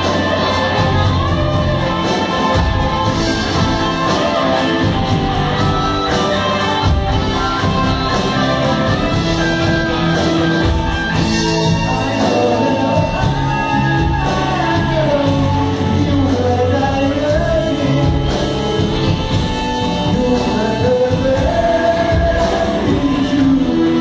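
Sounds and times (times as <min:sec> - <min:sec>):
person singing: 0:00.0 - 0:24.0
rock band playing: 0:00.0 - 0:24.0.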